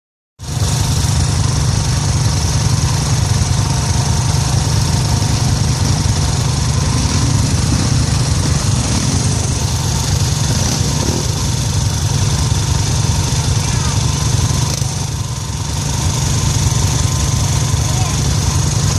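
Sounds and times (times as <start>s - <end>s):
vehicle engine low rumble: 0.4s - 18.9s.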